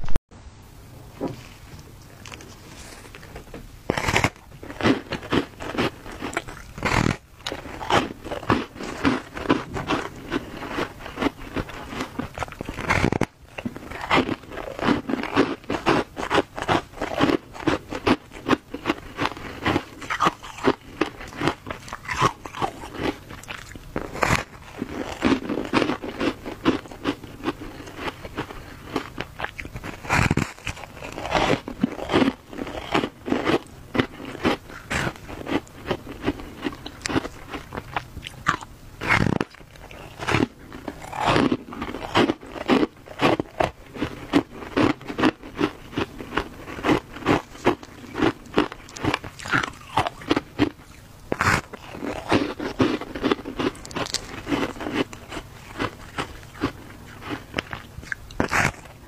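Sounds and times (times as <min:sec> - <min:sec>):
crunching and chewing ice: 0:01.7 - 0:59.0.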